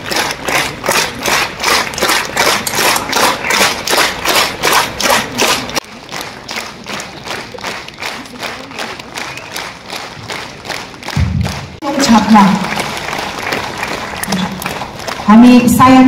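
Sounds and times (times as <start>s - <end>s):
crowd clapping in unison: 0.0s - 16.0s.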